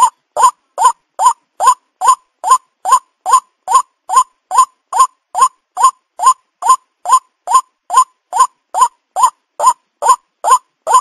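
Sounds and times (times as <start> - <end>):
waterhen calling: 0.0 - 11.0.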